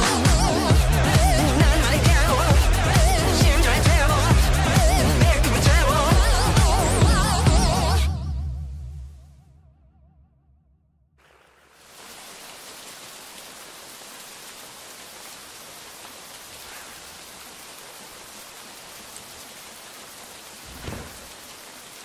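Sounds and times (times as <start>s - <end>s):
rain hiss: 0.0s - 7.4s, 11.2s - 22.0s.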